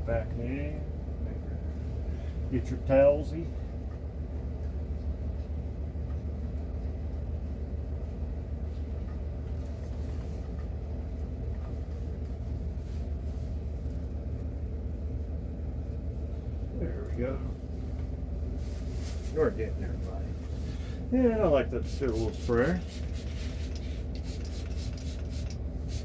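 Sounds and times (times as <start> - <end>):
machinery humming: 0.0 - 26.0.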